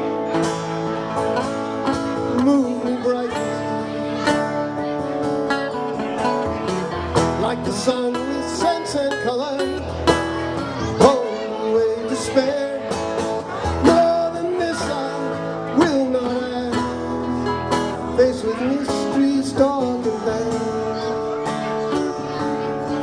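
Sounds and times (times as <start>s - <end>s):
plucked and strummed guitar: 0.0s - 23.0s.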